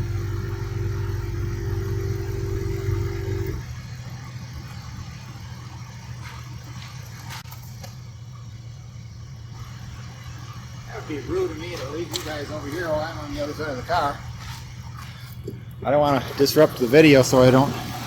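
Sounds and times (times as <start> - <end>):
air compressor whining: 0.0 - 18.0
low engine hum: 0.0 - 18.0.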